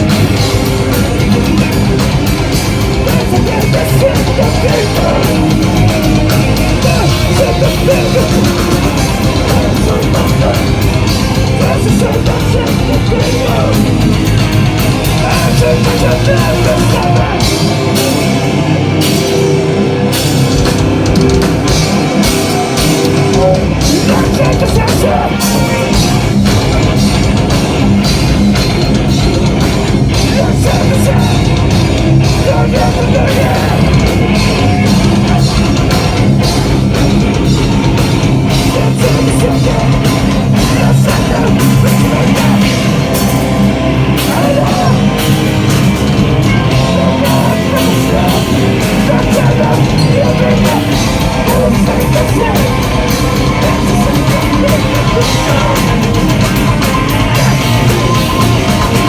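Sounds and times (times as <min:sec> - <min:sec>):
hardcore band playing live: 0:00.0 - 0:59.0.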